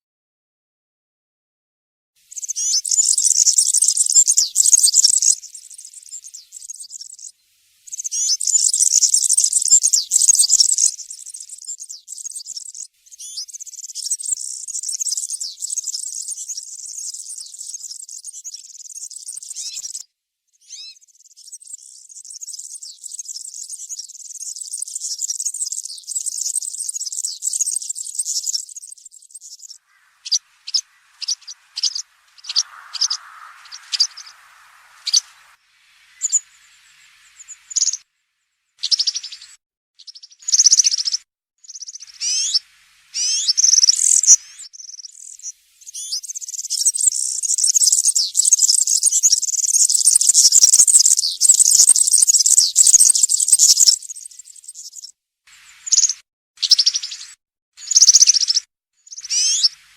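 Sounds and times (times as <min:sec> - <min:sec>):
bird singing high rapid phrases: 0:02.3 - 0:20.0, 0:20.6 - 0:59.9.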